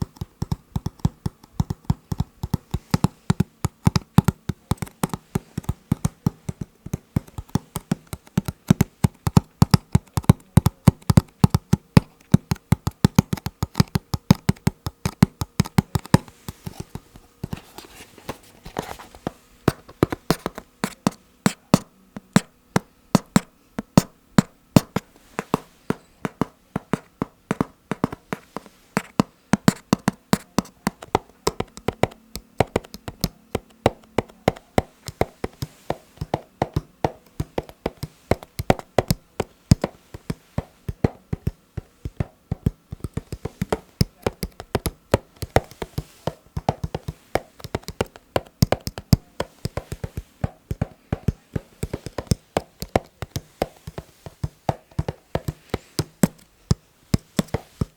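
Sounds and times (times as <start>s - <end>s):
fingertips tapping on hard objects: 0.0s - 57.9s.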